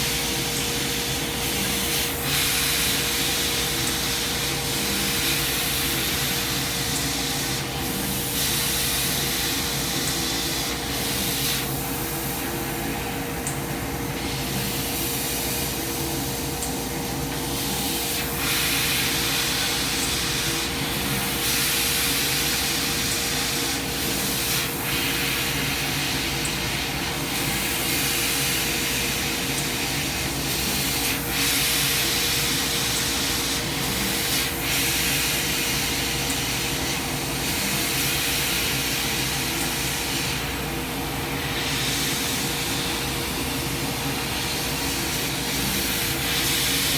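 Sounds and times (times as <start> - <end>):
laser cutter hissing: 0.0 - 46.9.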